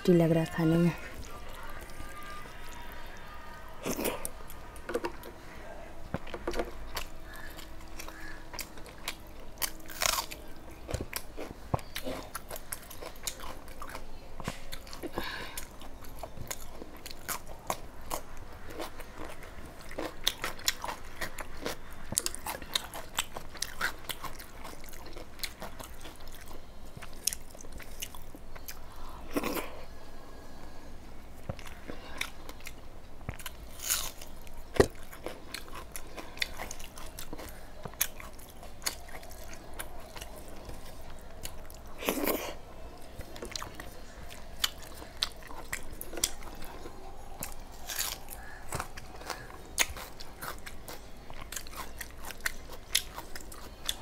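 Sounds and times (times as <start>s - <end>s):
person chewing food: 0.8s - 5.4s, 6.0s - 30.0s, 31.4s - 54.0s.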